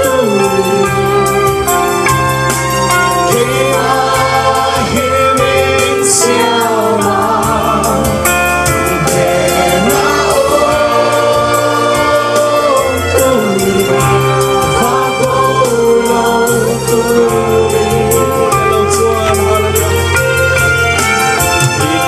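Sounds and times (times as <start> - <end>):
amplified instruments with steady beat: 0.0 - 22.0
group of voices singing: 0.0 - 22.0.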